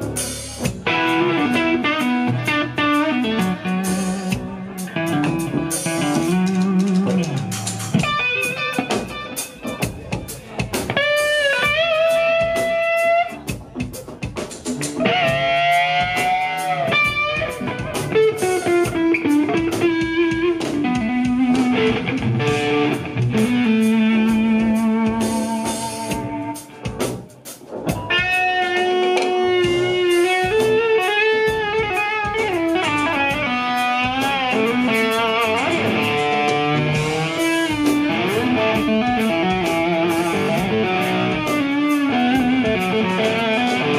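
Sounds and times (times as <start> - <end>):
electric guitar lead melody: 0.0 - 14.0, 14.7 - 43.9.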